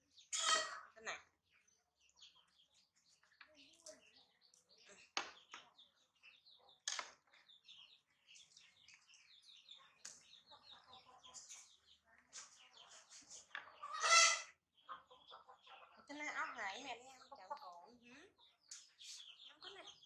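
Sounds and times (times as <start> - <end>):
small birds chirping: 0.0 - 20.0
chickens clucking: 0.2 - 1.0, 2.1 - 20.0.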